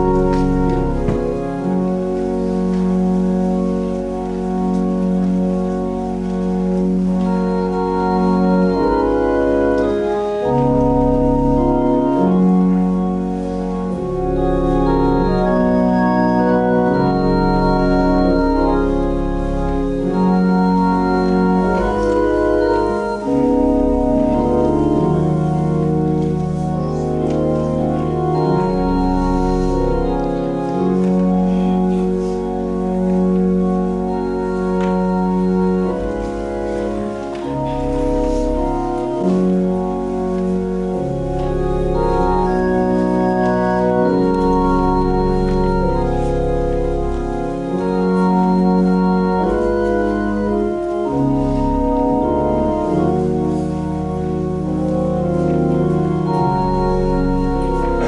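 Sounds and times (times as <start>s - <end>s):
deep bass line: 0.0s - 58.0s
organ chords: 0.0s - 58.0s.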